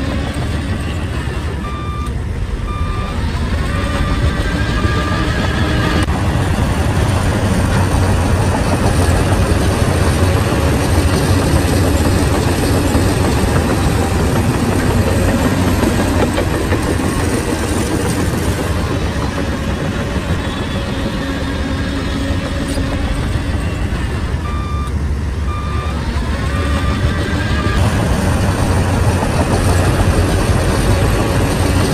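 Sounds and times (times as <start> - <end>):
bulldozer diesel engine: 0.0 - 31.9.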